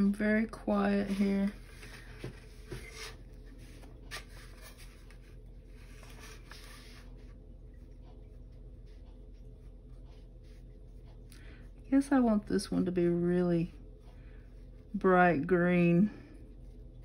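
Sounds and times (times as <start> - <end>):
paintbrush strokes on wood: 0.8 - 17.0.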